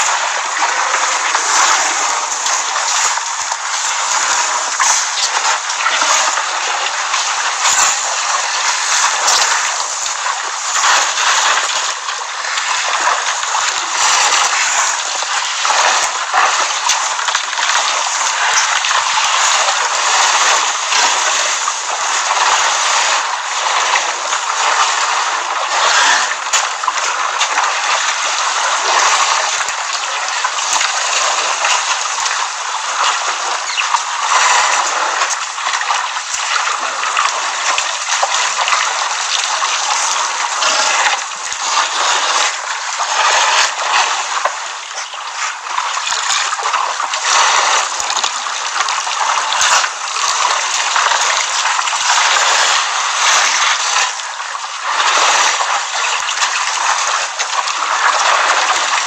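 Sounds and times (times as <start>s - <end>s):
water splashing and gushing: 0.0s - 59.0s.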